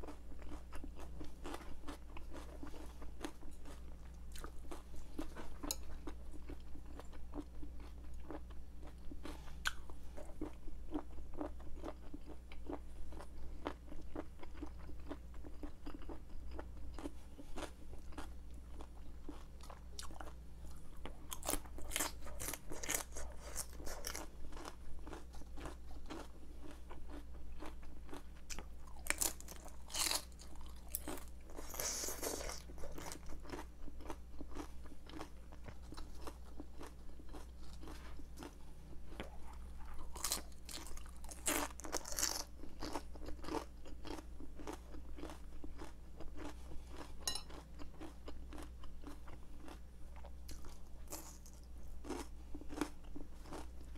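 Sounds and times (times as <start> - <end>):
faint low hum: 0.0 - 53.9
person crunching raw vegetables: 0.0 - 53.9.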